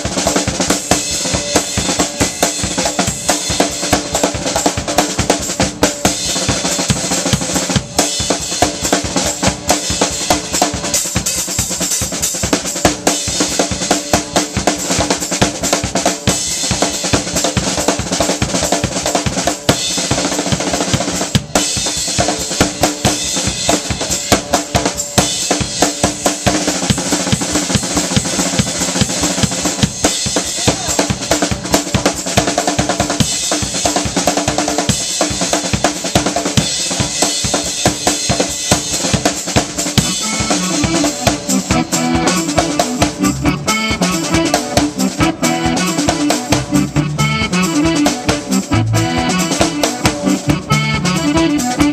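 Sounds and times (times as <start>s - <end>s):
drum kit beating: 0.0s - 51.9s
live band playing: 0.0s - 51.9s.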